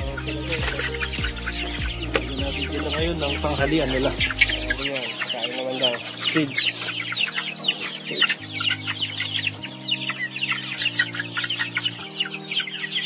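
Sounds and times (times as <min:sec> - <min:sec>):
chickens peeping and clucking: 0:00.0 - 0:13.0
low held music chords: 0:00.0 - 0:13.0.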